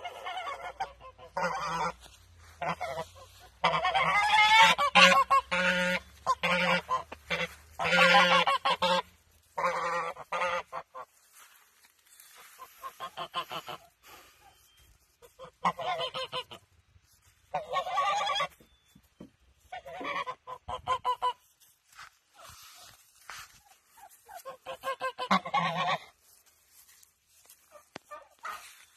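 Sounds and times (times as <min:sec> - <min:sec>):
geese honking: 0:00.0 - 0:18.7, 0:19.6 - 0:28.9.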